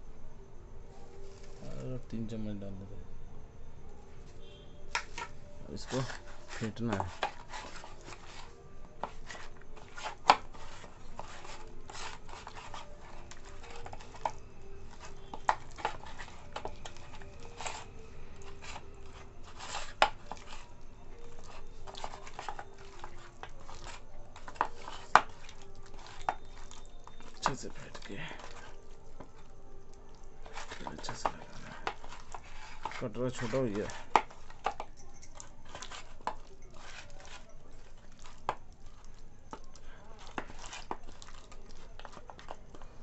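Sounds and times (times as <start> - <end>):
hands rubbing chicken in flour: 5.0 - 29.5, 30.4 - 34.9, 35.6 - 43.0.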